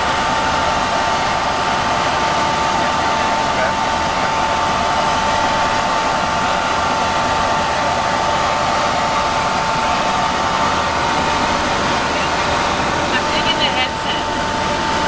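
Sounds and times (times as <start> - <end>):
helicopter turbine whine: 0.0 - 15.0.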